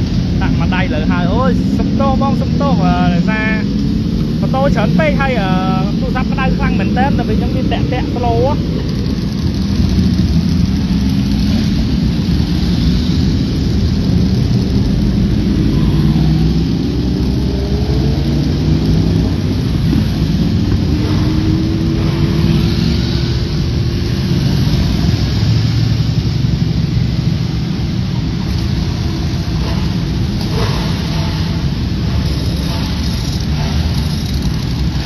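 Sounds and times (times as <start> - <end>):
motorbike engines revving: 0.0 - 35.0.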